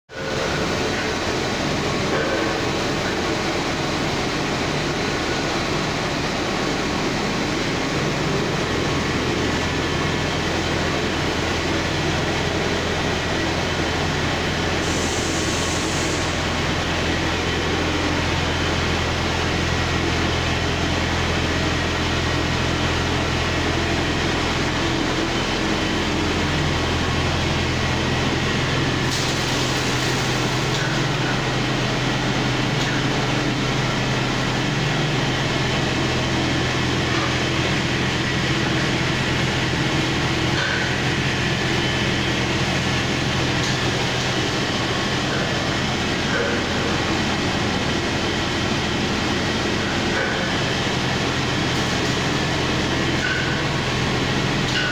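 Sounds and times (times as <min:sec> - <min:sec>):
machinery droning with low hum: 0:00.1 - 0:54.9.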